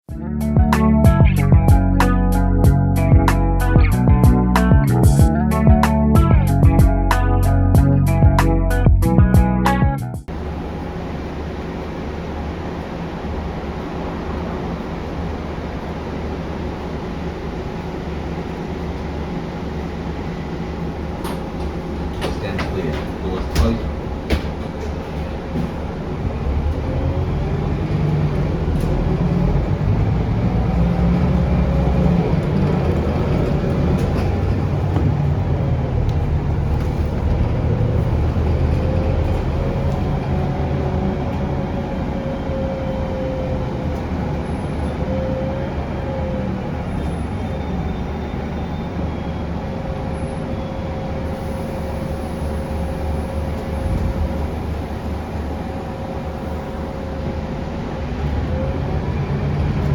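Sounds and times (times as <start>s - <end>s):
bus diesel engine rumbling: 0.0s - 59.9s
thin transmission whine: 10.3s - 59.9s.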